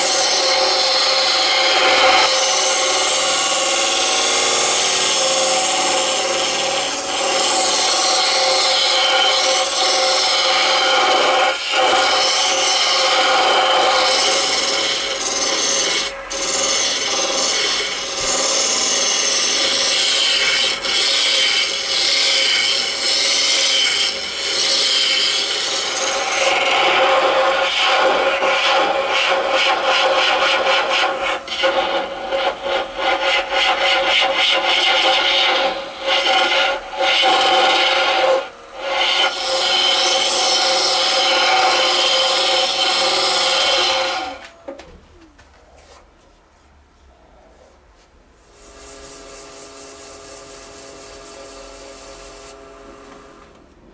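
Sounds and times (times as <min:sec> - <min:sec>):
turning tool scraping on lathe: 0:00.0 - 0:44.6
lathe motor hum: 0:00.0 - 0:44.7.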